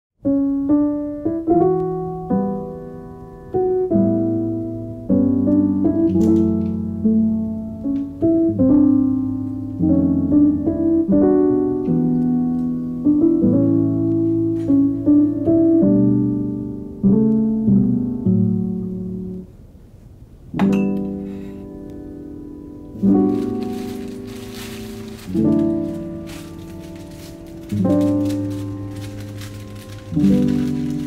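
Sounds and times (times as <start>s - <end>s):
gentle piano music: 0.2s - 19.8s, 20.4s - 31.0s.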